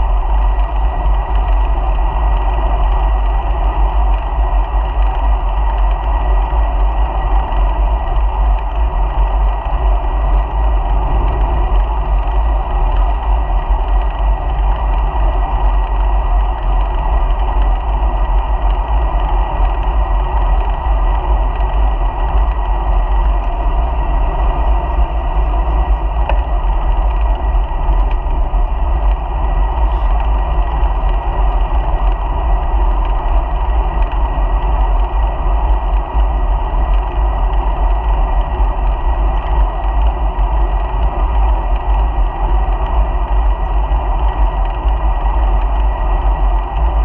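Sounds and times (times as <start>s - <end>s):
muffled wind buffeting: 0.0s - 47.0s
rolling road noise: 0.0s - 47.0s.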